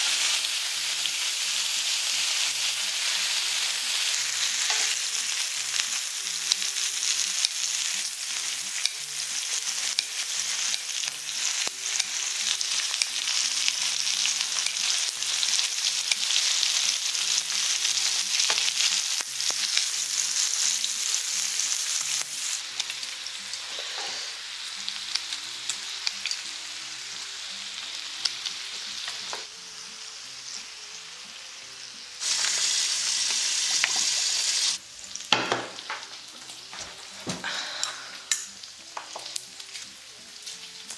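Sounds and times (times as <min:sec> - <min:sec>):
meat sizzling on a griddle: 0:00.0 - 0:40.9.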